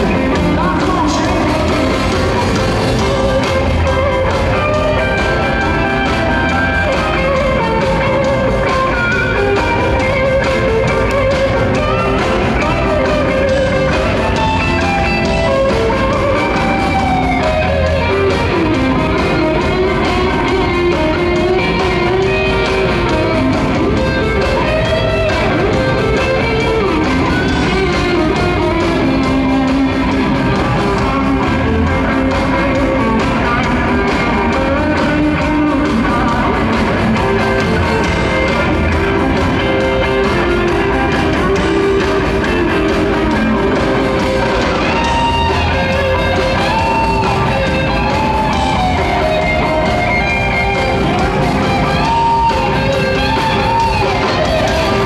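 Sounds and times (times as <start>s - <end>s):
electric guitars: 0.0s - 55.0s
live rock band playing: 0.0s - 55.0s.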